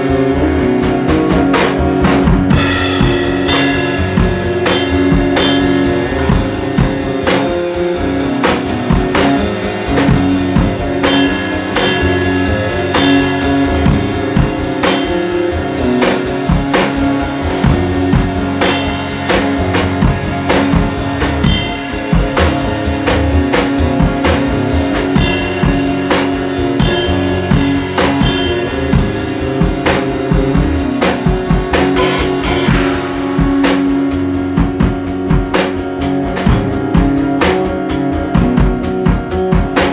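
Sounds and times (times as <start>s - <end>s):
drum kit beat: 0.0s - 39.9s
electric guitar sustained notes: 0.0s - 39.9s
cymbal crash: 2.4s - 35.4s.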